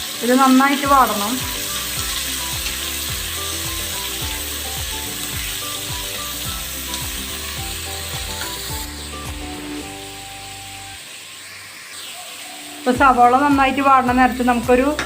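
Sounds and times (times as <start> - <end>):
onions sizzling in oil: 0.0 - 15.0
background music with beat: 0.9 - 11.0, 13.0 - 15.0.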